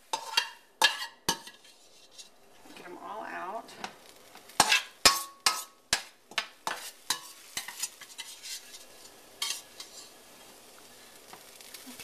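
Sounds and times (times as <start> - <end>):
utensil scraping a metal wok: 0.0 - 2.5, 4.5 - 12.0.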